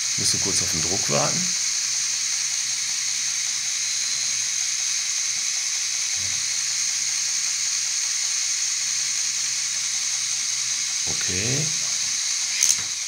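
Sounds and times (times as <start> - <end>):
motor whirring hiss: 0.0 - 13.0.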